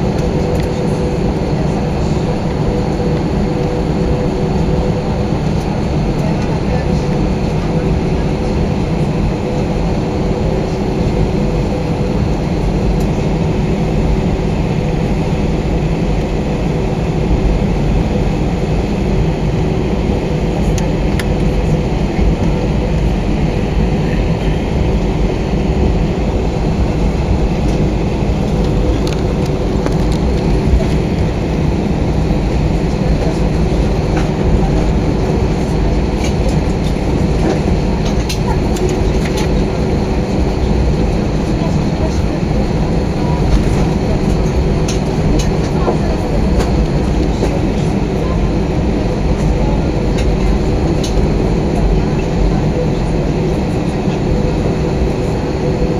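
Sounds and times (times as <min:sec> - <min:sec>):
airplane cabin engine hum: 0:00.0 - 0:55.9.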